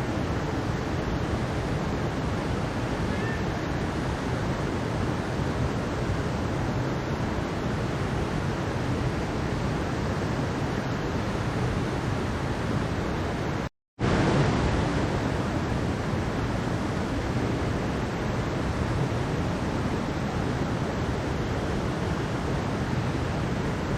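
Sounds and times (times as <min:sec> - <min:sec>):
stream water rushing: 0:00.0 - 0:23.9.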